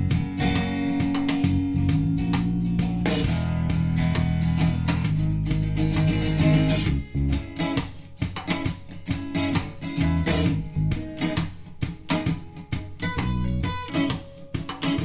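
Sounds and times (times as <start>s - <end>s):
guitar music over loudspeaker: 0.0s - 15.0s.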